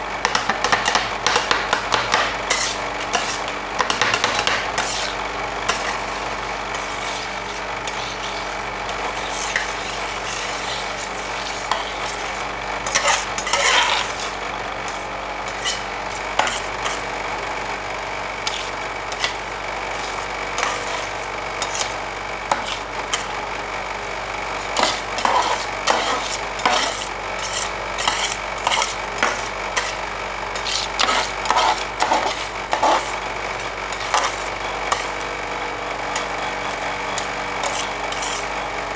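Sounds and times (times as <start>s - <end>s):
refrigeration unit humming: 0.0s - 38.9s
steel spatulas scraping on cold plate: 0.3s - 17.1s, 18.4s - 23.3s, 24.6s - 33.2s, 33.9s - 35.2s, 37.1s - 38.5s.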